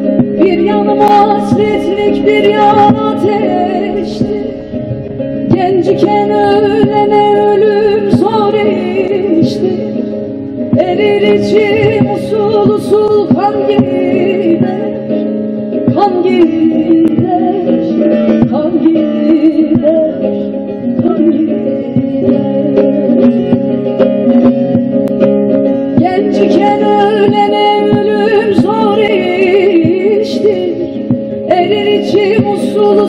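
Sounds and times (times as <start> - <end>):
folk music on plucked lute: 0.0 - 33.0.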